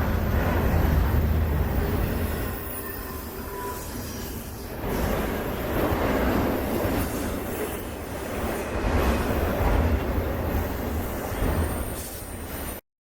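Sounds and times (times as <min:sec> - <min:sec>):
freight train rolling on rails: 0:00.0 - 0:12.8.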